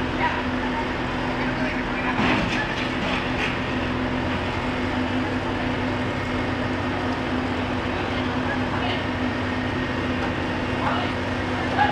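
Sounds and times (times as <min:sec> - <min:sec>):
heavy vehicle engines: 0:00.0 - 0:11.9.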